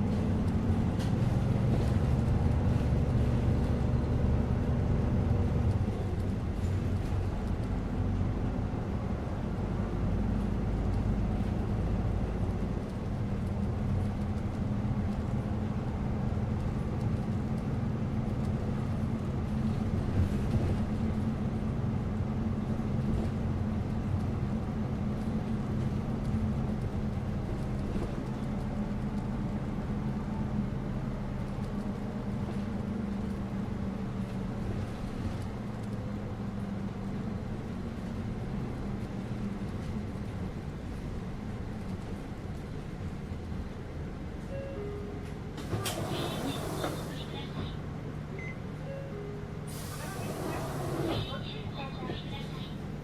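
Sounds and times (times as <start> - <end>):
bus engine hum: 0.0 - 53.0
road noise: 0.0 - 53.0.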